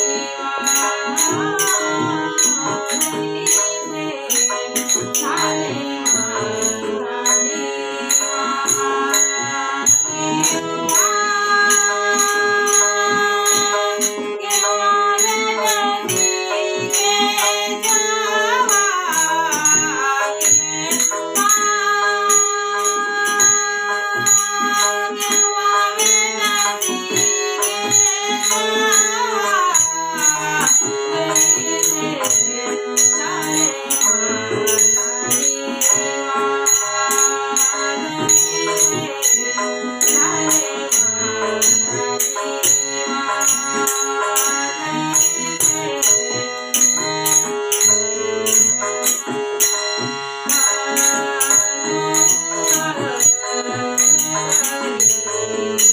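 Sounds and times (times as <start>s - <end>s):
jingling rattling percussion: 0.0s - 55.9s.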